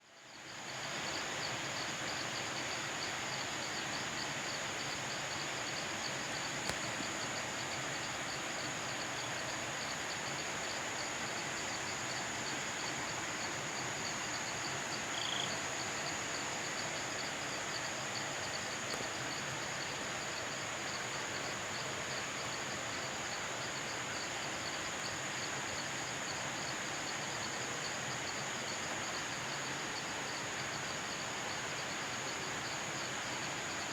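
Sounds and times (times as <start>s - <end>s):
cicadas droning: 0.0s - 33.9s
crickets chirring: 0.1s - 33.9s.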